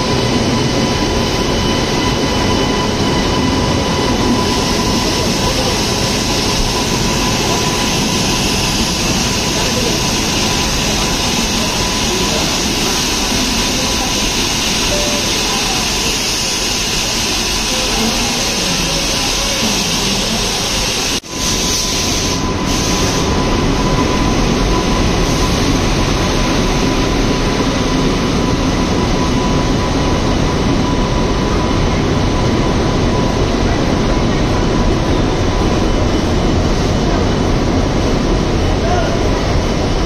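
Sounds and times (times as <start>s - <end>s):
train rumbling past: 0.0s - 40.0s.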